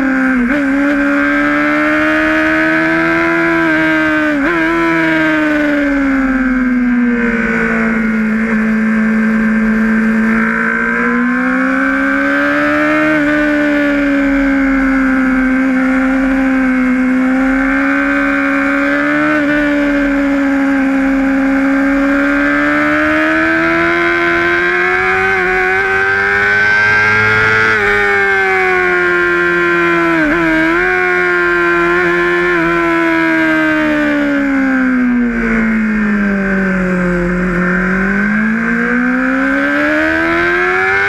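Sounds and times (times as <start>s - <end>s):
motorcycle engine at high revs: 0.0s - 41.0s.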